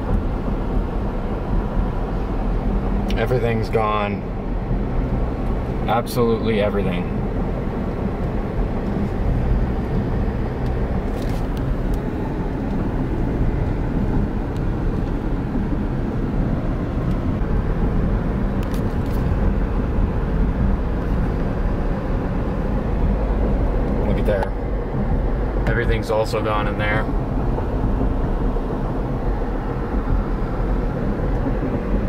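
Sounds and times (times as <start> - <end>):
car road and engine noise: 0.0 - 32.0.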